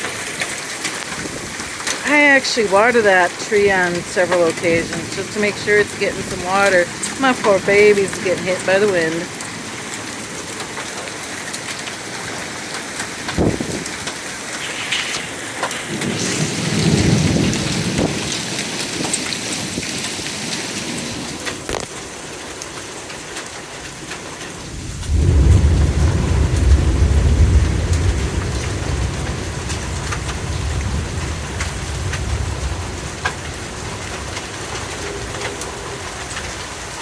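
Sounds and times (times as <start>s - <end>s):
torrential rain pouring: 0.0s - 37.0s
thunder rumbling: 1.0s - 10.7s, 12.4s - 19.9s, 24.5s - 37.0s.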